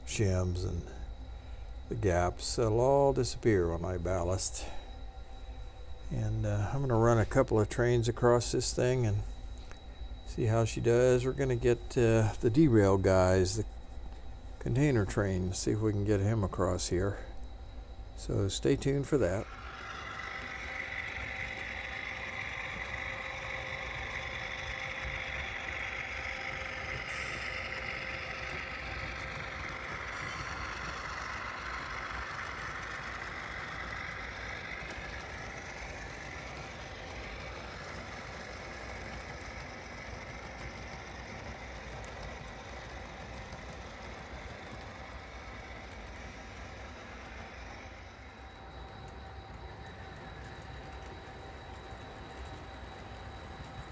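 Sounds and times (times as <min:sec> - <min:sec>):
model train running on track: 0:00.0 - 0:53.9.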